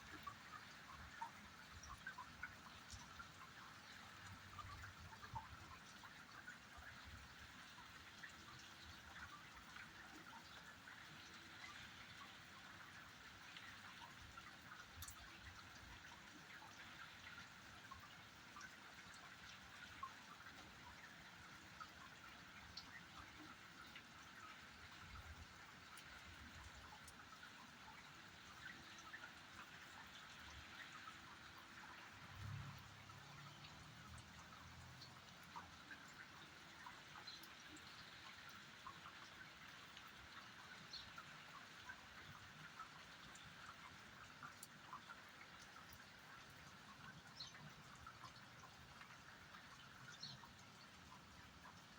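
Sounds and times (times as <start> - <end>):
faint steady rain: 0.0 - 51.9.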